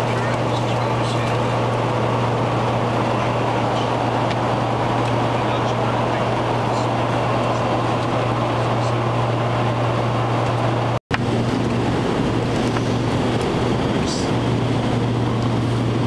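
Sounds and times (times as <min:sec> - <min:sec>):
small aircraft cabin engine drone: 0:00.0 - 0:16.0.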